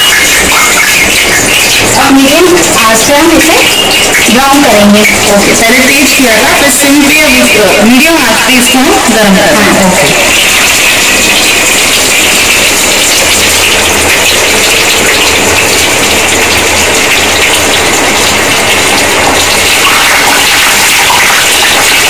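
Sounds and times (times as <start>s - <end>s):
oil sizzling while deep-frying: 0.0s - 22.0s.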